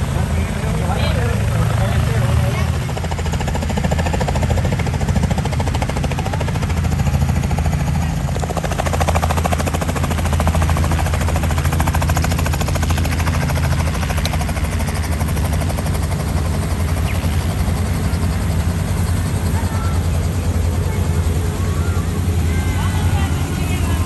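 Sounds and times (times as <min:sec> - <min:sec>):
helicopter engine drone: 0:00.0 - 0:24.0
helicopter rotor chop: 0:00.0 - 0:24.0.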